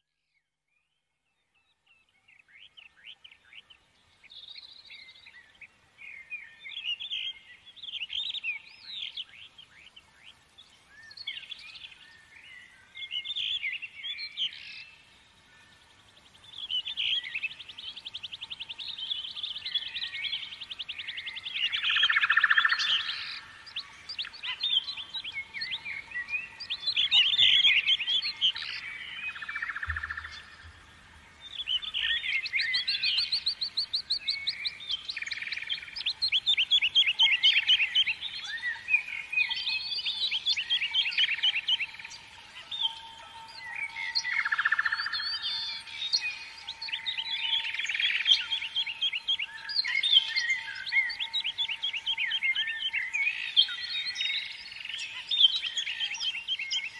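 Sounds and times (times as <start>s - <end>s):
birds singing: 0.3s - 56.9s.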